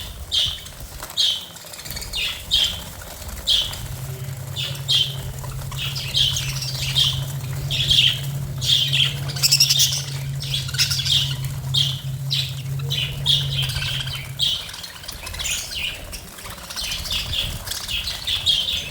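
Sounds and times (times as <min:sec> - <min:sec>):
budgerigars chirping: 0:00.0 - 0:18.9
steady low hum: 0:00.0 - 0:18.9.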